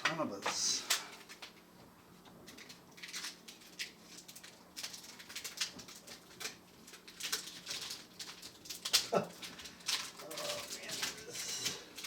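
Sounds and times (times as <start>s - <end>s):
sticky tape crackling and rustling: 0.0s - 12.0s.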